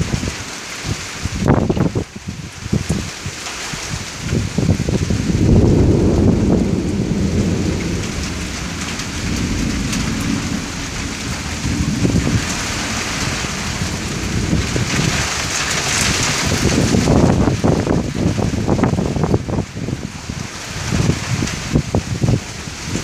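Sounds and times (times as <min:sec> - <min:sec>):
heavy rain: 0:00.0 - 0:23.0
thunder rumbling: 0:04.2 - 0:23.0.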